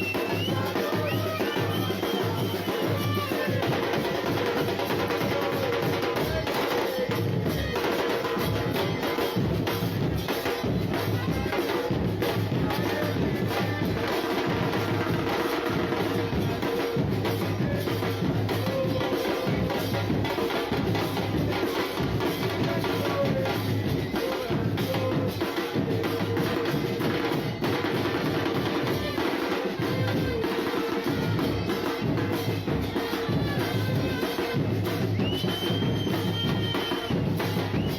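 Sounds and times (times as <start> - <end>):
crowd noise: 0.0 - 37.9
drum band beating: 0.0 - 37.9.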